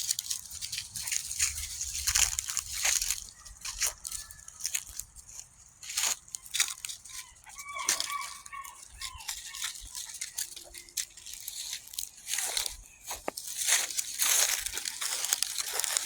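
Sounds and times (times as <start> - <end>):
dry leaves crunching and rustling: 0.0 - 16.0.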